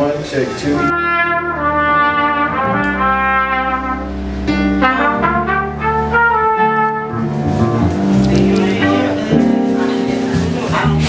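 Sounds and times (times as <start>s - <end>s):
brass instruments holding notes: 0.7s - 11.0s
steady bass line: 0.8s - 11.0s.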